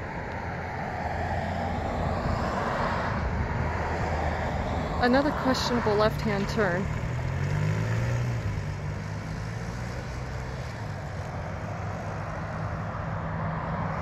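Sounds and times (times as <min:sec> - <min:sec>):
faint road noise: 0:00.0 - 0:14.0
vehicle engine humming: 0:00.0 - 0:14.0.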